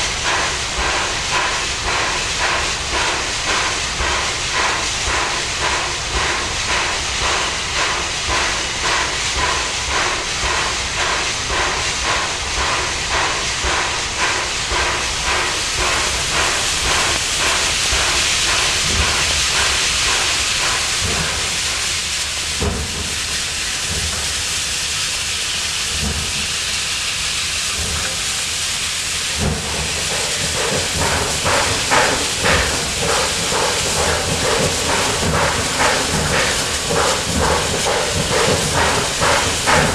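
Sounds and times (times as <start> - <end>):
steam hissing: 0.0 - 39.9
steam locomotive exhaust chuffs: 0.0 - 39.9.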